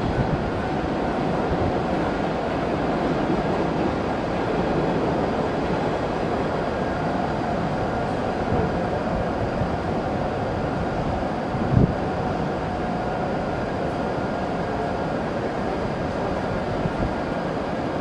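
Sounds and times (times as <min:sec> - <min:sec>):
train mechanical running noise: 0:00.0 - 0:18.0.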